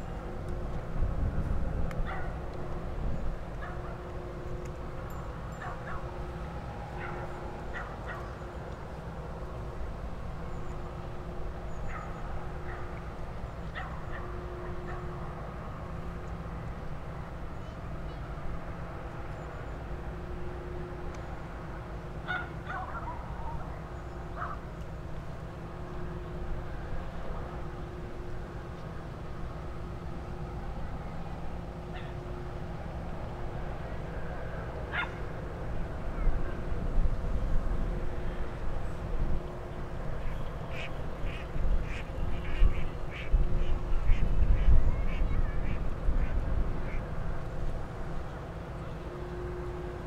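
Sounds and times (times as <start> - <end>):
faint steady hum: 0.0 - 50.0
low ship engine rumble: 0.0 - 50.0.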